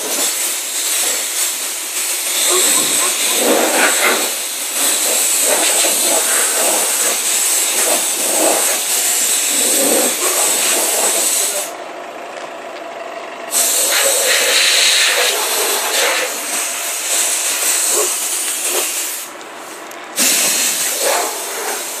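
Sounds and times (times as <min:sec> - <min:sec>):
compressed air blow gun hissing: 0:00.0 - 0:11.7, 0:13.5 - 0:22.0.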